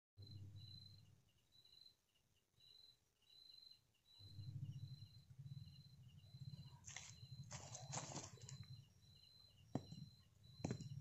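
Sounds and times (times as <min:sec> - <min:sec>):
insects chirping: 0:00.2 - 0:11.0.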